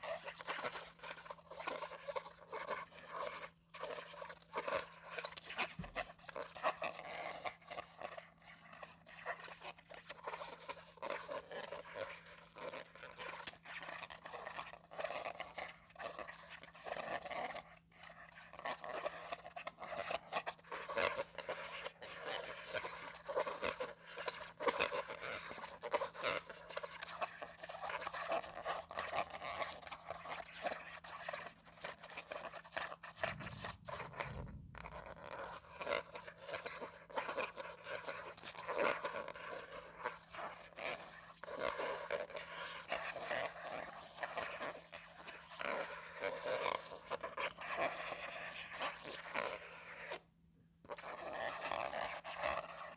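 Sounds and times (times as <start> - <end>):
comb scraping across paper: 0.0 - 50.2, 50.9 - 52.9.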